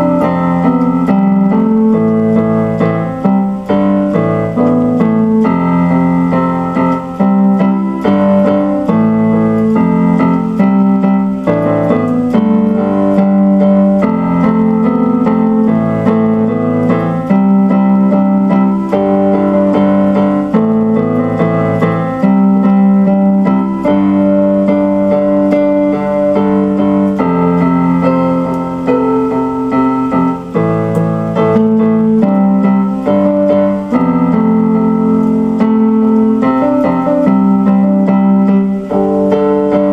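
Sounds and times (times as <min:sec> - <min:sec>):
keyboard playing piano chords: 0:00.0 - 0:39.9.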